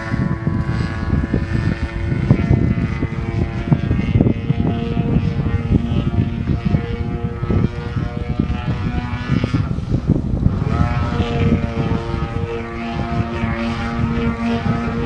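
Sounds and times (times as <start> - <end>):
gusty low rumble: 0.0 - 15.0
model plane gasoline engine: 0.0 - 15.0.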